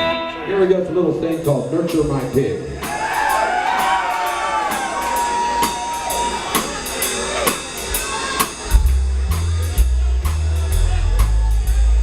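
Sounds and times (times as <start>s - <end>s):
drum kit beat: 1.3s - 12.0s.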